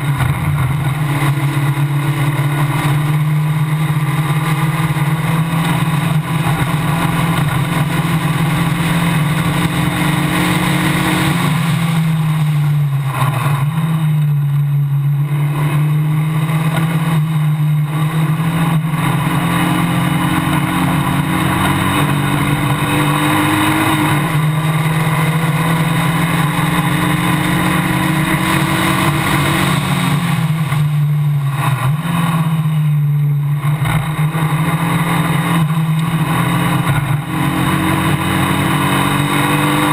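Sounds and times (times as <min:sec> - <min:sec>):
wind and tyre hiss: 0:00.0 - 0:32.6
racing car engine at high revs: 0:00.0 - 0:39.9.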